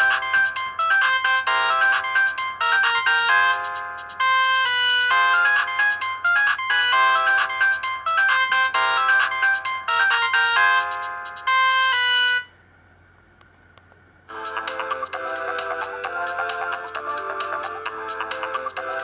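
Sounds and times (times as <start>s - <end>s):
polyphonic ringtone melody: 0.0s - 12.5s, 14.3s - 19.0s.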